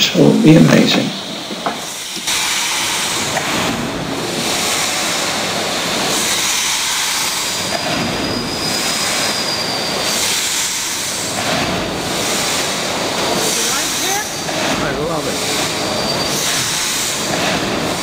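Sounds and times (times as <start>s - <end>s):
machinery noise: 0.0s - 18.0s
steam hissing: 0.0s - 18.0s.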